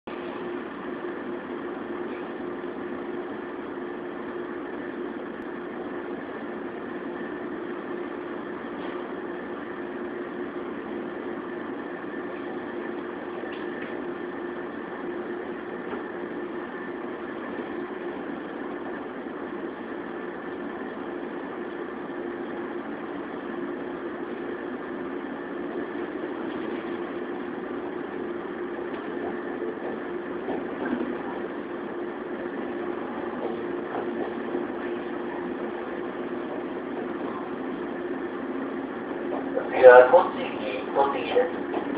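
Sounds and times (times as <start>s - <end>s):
steady hum: 0.1s - 41.9s
electric train running: 5.7s - 41.9s.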